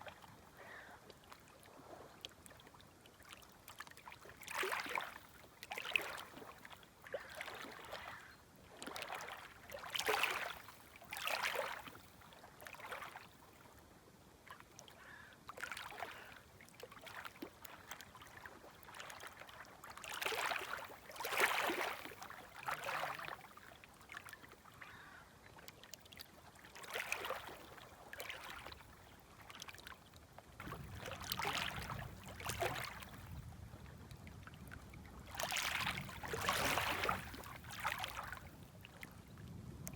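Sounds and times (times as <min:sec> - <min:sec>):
small waves lapping at shoreline: 0:00.0 - 0:39.9.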